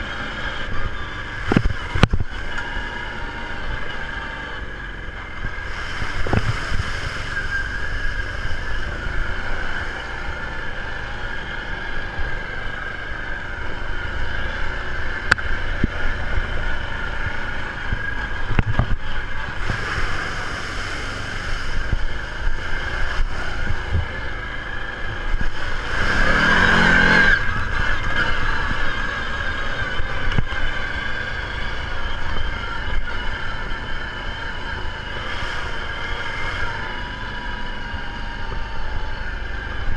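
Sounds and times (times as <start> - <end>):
atv engine running: 0.0 - 39.9
rush of noise: 0.0 - 39.9.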